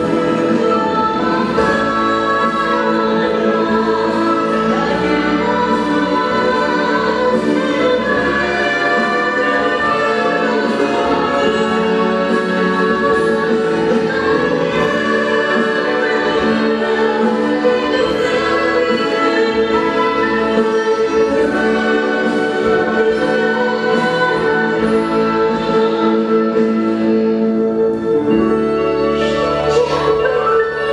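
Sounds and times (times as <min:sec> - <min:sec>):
singing with orchestra: 0:00.0 - 0:30.9.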